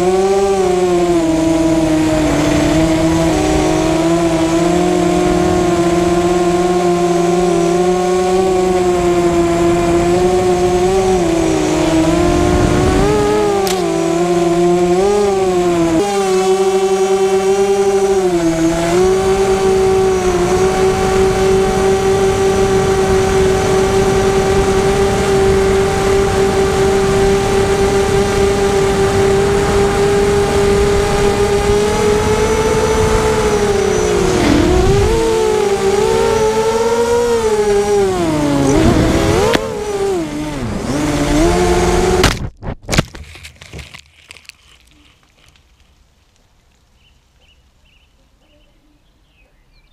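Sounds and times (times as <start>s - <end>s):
quadcopter motors whining: 0.0s - 42.2s.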